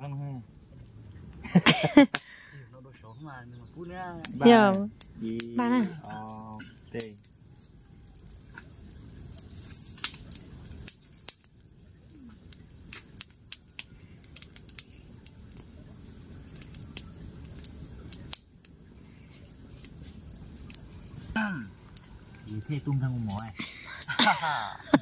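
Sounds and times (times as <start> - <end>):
campfire crackling and popping: 0.0 - 25.0
low steady fire rumble: 0.0 - 25.0.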